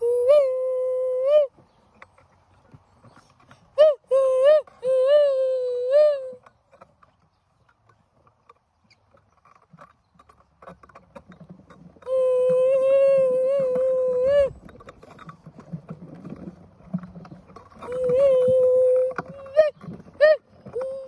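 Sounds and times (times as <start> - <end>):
plastic wagon rolling over grass: 0.0 - 21.0.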